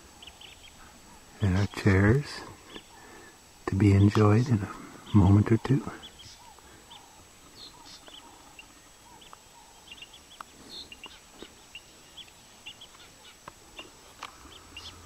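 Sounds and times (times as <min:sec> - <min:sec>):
small animals chirping: 0:00.1 - 0:15.0.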